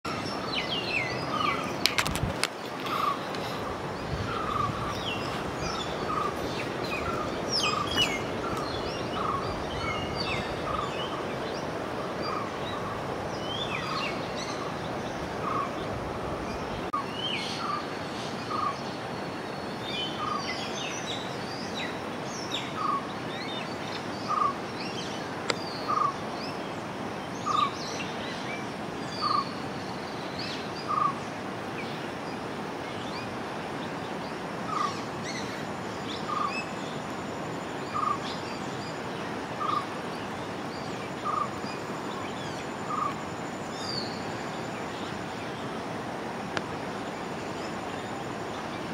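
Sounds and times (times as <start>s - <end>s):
birds chirping: 0.0s - 48.9s
river water rushing: 0.1s - 48.9s.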